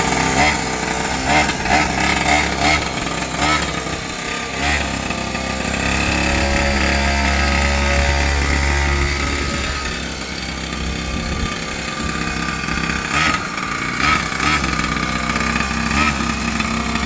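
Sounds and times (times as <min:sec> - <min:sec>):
two-stroke rc truck engine: 0:00.0 - 0:17.0.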